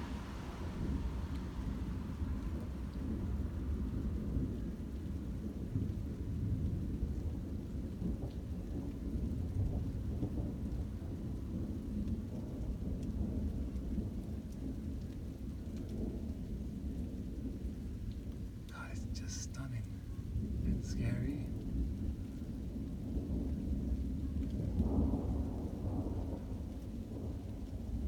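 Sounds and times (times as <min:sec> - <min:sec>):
rain: 0:00.0 - 0:28.0.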